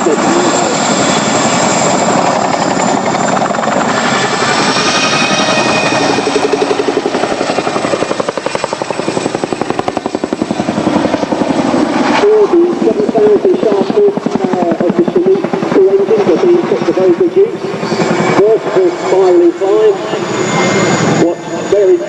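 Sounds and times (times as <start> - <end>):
helicopter rotor chop: 0.0 - 22.0
high turbine whine: 0.0 - 22.0.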